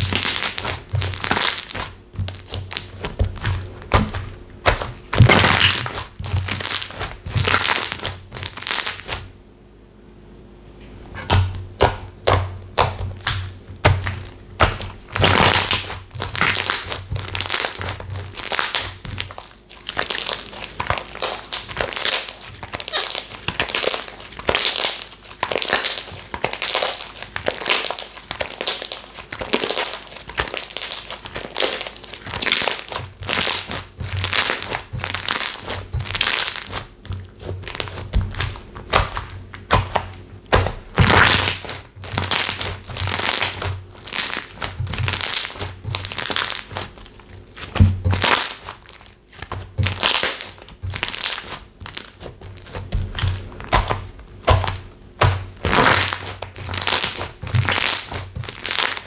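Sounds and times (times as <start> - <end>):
slime crackling and popping: 0.0 - 9.3, 11.2 - 59.0.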